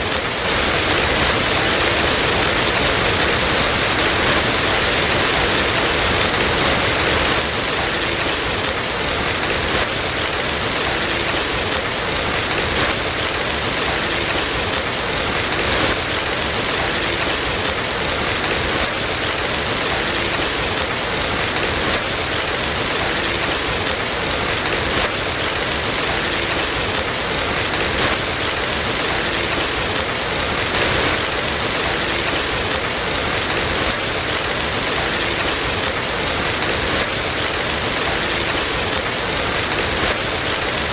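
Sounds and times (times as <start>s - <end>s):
steady rain falling: 0.0s - 40.9s
wood fire crackling: 0.0s - 40.9s.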